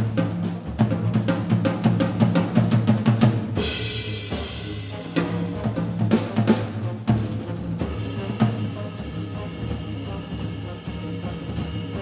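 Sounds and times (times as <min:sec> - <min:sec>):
rapid jazz drumming: 0:00.0 - 0:12.0.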